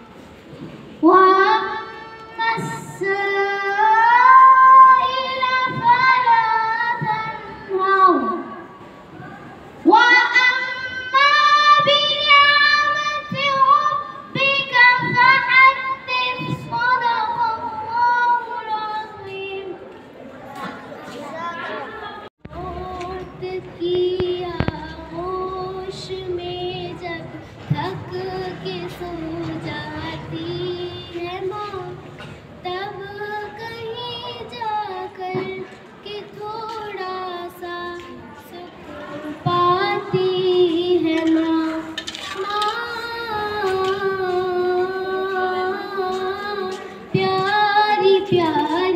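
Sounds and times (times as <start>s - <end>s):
boy singing into microphone: 0.0s - 48.9s.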